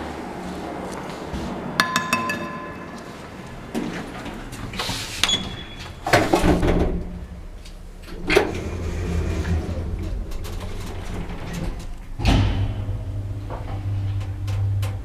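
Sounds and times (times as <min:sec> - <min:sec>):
lift doors clanking: 0:01.9 - 0:15.0
lift running hum: 0:02.4 - 0:15.0.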